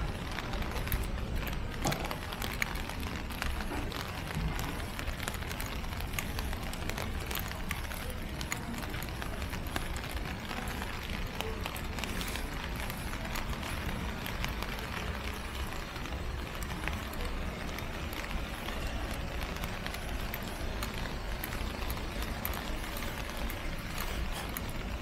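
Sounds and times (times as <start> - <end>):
rain falling on wet street: 0.0 - 25.0.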